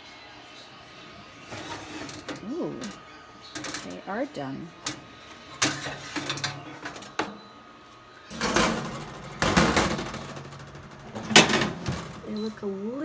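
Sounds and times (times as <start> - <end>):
metal basket scraping on rack: 1.0 - 7.6, 8.3 - 12.8
metal basket clanking: 1.1 - 7.6, 8.3 - 13.0.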